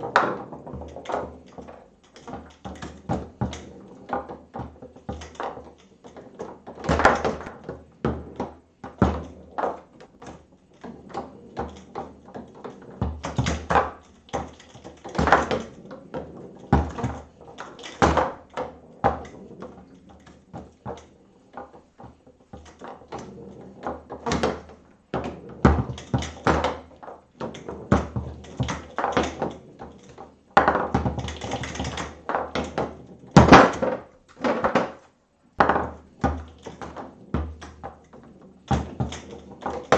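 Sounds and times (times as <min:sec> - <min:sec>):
foosball ball knocking: 0:00.0 - 0:35.0, 0:35.6 - 0:39.9
foosball rods clacking: 0:00.0 - 0:39.9.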